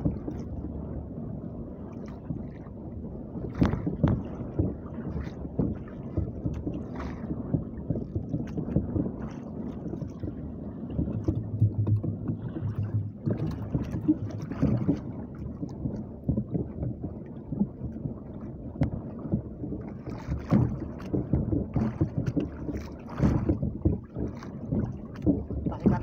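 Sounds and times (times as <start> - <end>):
water splashing against boat hull: 0.0 - 26.0
wind buffeting microphone: 0.0 - 26.0.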